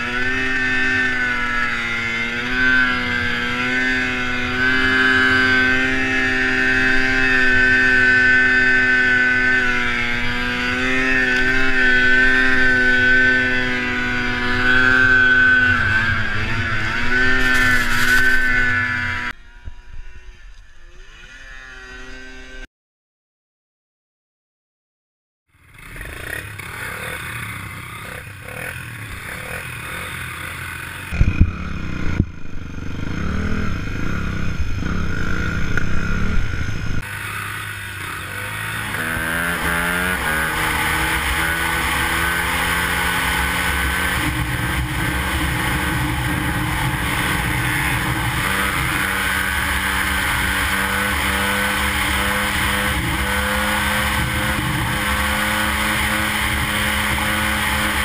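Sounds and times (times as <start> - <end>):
atv engine: 0.0 - 22.6, 25.5 - 58.0
dirt bike engine revving: 0.0 - 22.7, 25.5 - 58.0.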